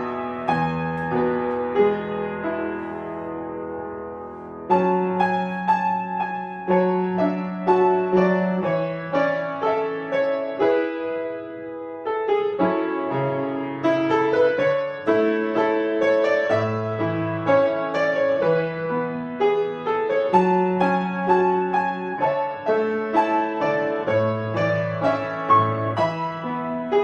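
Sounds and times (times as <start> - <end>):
solo piano playing: 0.0 - 27.0.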